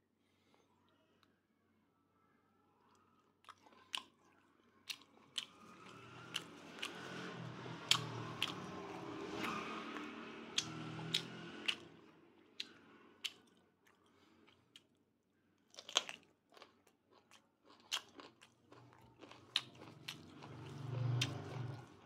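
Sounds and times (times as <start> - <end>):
chewing crunchy food: 2.9 - 22.0.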